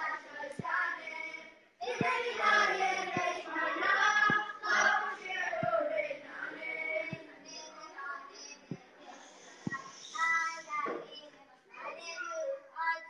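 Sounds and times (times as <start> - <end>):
boys' choir singing: 0.0 - 10.6.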